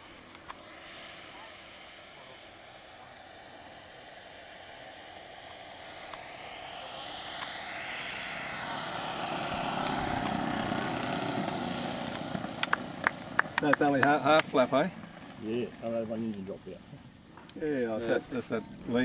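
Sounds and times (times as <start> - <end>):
model airplane propeller engines: 0.0 - 19.0.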